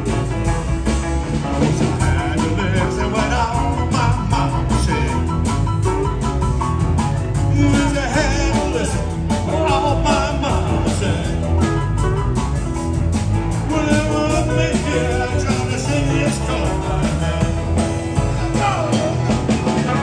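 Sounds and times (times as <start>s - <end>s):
drums: 0.0s - 20.0s
electric bass: 0.0s - 20.0s
electric guitars: 0.0s - 20.0s
piano: 0.0s - 20.0s.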